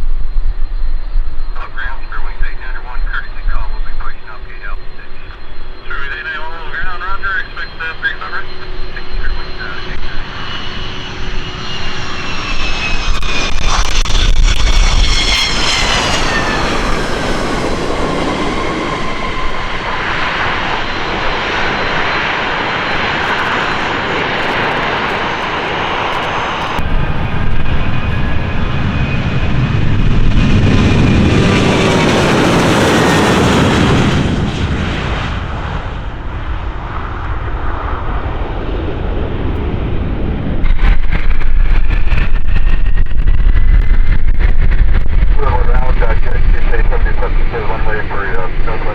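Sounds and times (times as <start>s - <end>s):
jet airliner passing: 0.0s - 48.9s
second loud jet: 4.2s - 48.9s.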